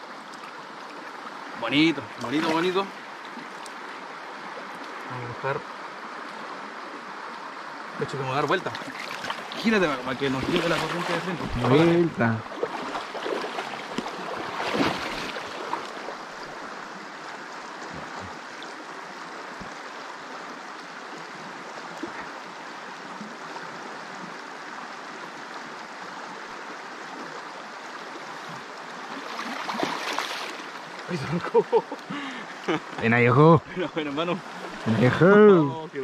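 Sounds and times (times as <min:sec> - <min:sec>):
river water rushing over rocks: 0:00.0 - 0:36.0
water splashes: 0:00.0 - 0:36.0.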